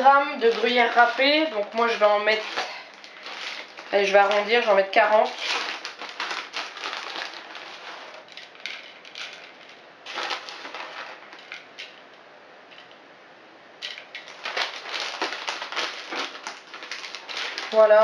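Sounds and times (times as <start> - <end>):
plastic bag crinkling: 0.0 - 12.0, 13.8 - 18.0.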